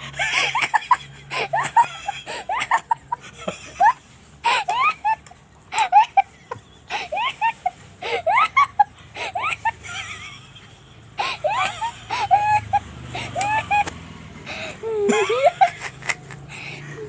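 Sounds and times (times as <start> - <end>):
high-pitched laughter: 0.0 - 10.6, 11.2 - 17.0.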